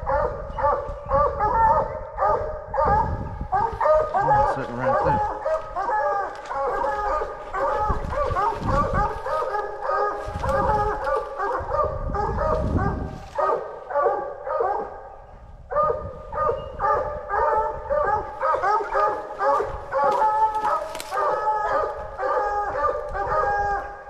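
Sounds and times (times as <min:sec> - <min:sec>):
hounds baying: 0:00.0 - 0:24.0.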